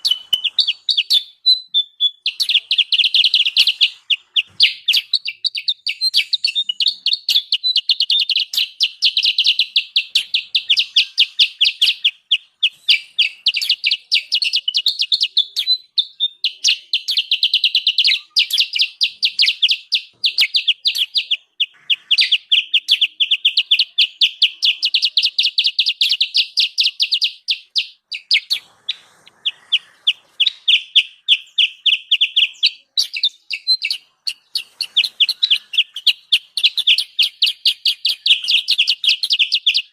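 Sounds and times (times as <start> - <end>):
songbird chattering call: 0.0 - 39.9.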